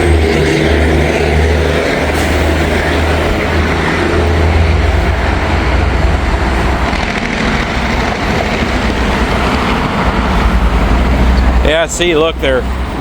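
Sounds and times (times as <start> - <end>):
heavy highway traffic rumble: 0.0 - 13.0.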